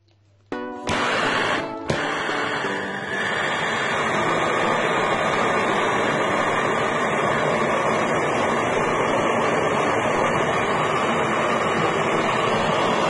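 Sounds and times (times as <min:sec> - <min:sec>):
gas torch flame rushing: 0:00.9 - 0:13.0.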